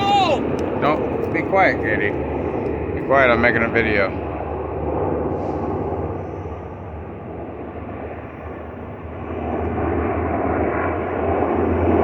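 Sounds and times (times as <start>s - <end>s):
helicopters droning overhead: 0.0s - 12.0s.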